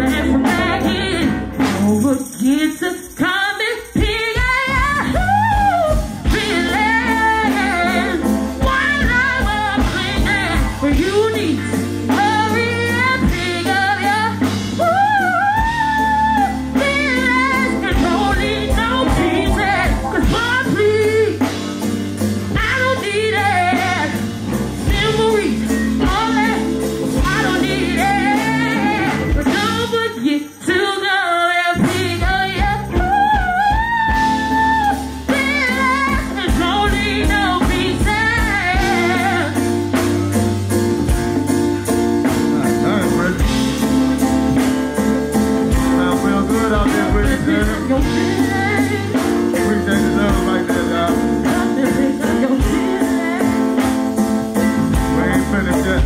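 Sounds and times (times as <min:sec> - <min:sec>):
bass notes: 0:00.0 - 0:02.3, 0:04.0 - 0:30.2, 0:31.8 - 0:56.0
lead singer singing: 0:00.0 - 0:40.4, 0:41.8 - 0:56.0
live band playing: 0:00.0 - 0:56.0.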